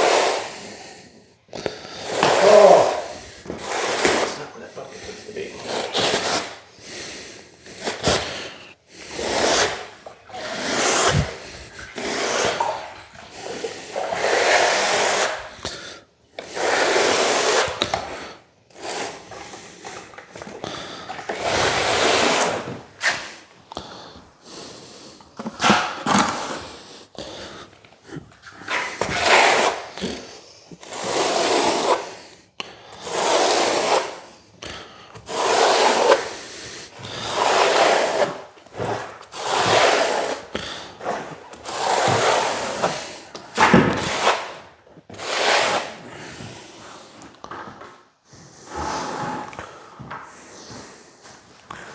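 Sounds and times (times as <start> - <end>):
hand tool scraping hard surface: 1.6 - 23.5, 28.4 - 32.1, 35.2 - 51.9.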